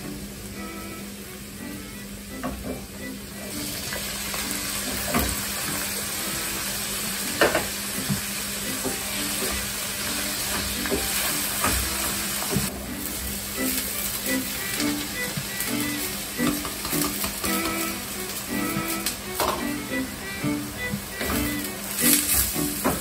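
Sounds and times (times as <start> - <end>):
vegetables sizzling in pan: 0.0 - 23.0.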